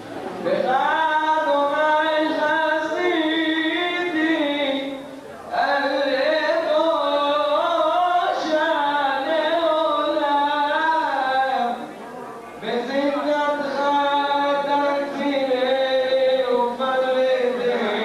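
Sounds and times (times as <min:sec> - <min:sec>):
man chanting into a microphone: 0:00.4 - 0:12.0, 0:12.6 - 0:18.0.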